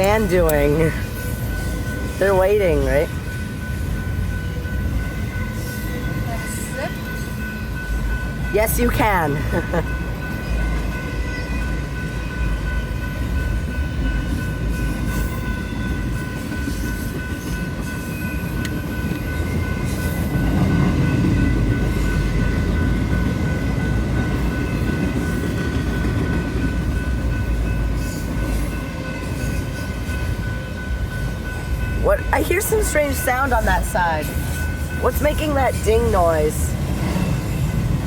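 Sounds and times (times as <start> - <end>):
crossing warning bell dinging: 0.0 - 38.0
freight train rumbling and clattering: 0.0 - 38.0.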